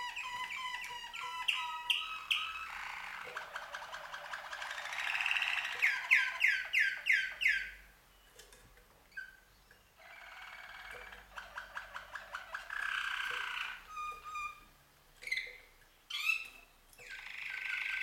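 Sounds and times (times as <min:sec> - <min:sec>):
canaries singing: 0:00.0 - 0:18.0.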